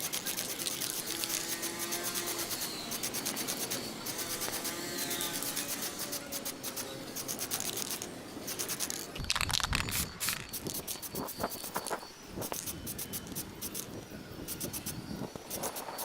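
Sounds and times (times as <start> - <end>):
hand scraping and rubbing: 0.0 - 16.0.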